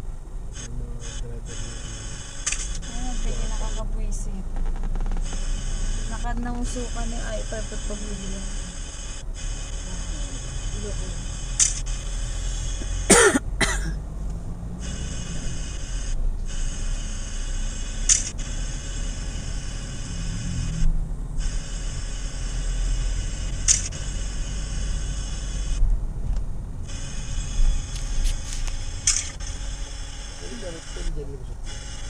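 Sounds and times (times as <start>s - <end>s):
vehicle rumble from inside cabin: 0.0s - 32.0s.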